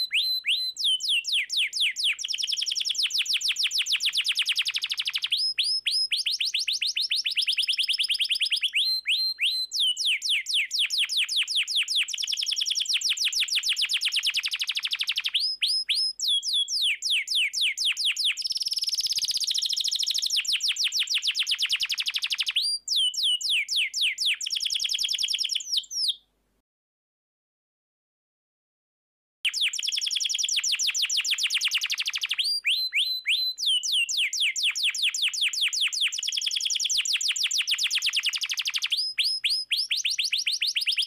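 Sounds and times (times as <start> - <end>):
canary singing trills: 0.0 - 26.2, 29.5 - 41.0.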